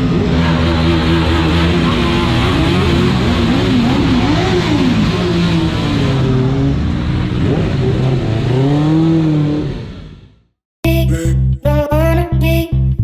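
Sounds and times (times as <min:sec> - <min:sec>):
motorcycle engines revving: 0:00.0 - 0:10.5.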